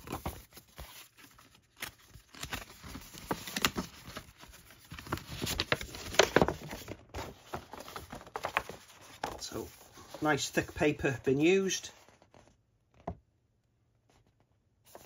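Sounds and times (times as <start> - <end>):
paper rustling and crinkling: 0.0 - 12.6.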